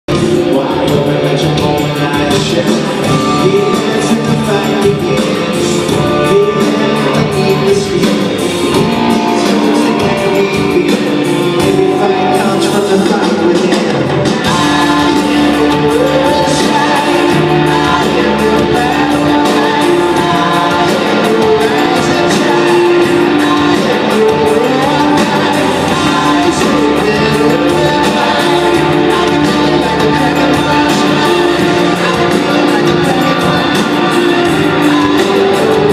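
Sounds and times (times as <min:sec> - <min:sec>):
rock music with singing: 0:00.1 - 0:35.9.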